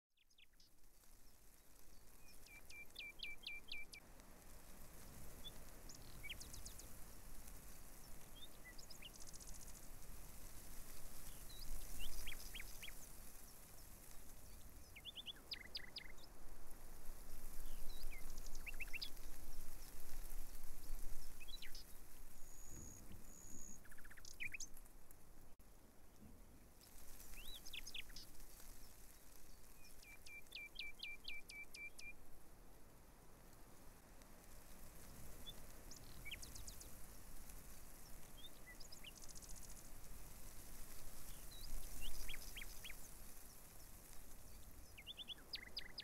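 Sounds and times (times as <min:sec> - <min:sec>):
small birds chirping: 0:00.1 - 0:32.2, 0:33.4 - 0:46.0
background hiss: 0:00.2 - 0:46.0.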